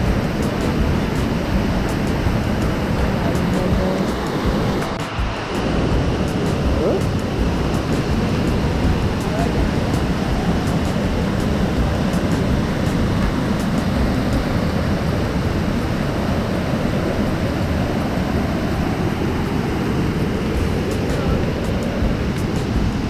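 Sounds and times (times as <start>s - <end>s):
falling water rushing: 0.0s - 23.0s.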